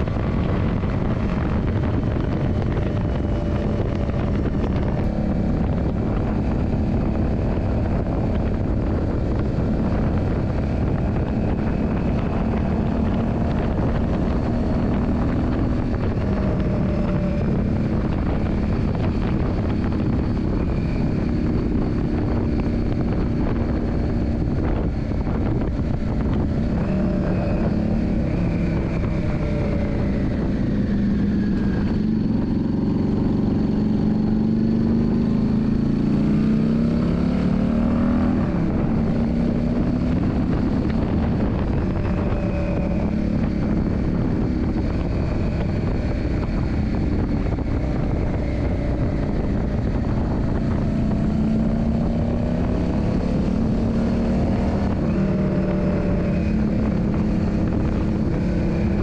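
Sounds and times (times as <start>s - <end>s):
motorcycle engine running: 0.0s - 59.0s
rushing noise: 0.0s - 59.0s.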